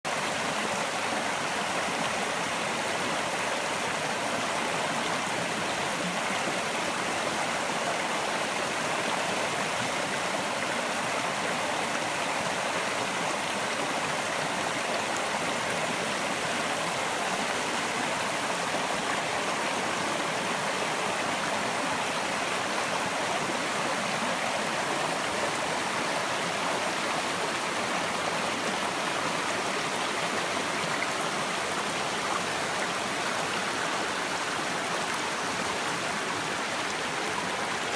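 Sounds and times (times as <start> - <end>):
creek running over rocks: 0.1 - 37.9.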